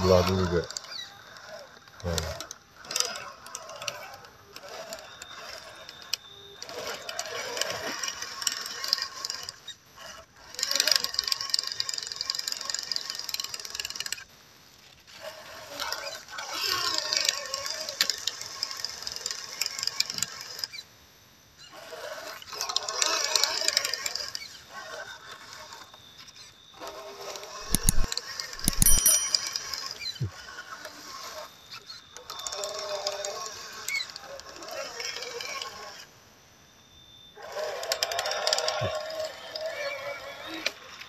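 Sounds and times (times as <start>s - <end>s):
toy car motor whirring: 0.0s - 20.9s, 21.6s - 36.2s, 37.4s - 41.0s.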